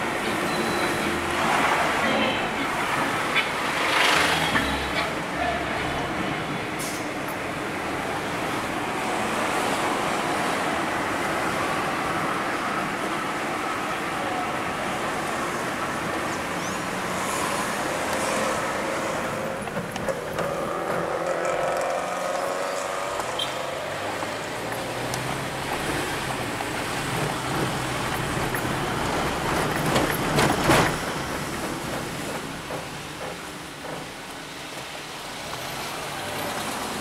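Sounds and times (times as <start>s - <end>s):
road noise inside car: 0.0s - 37.0s.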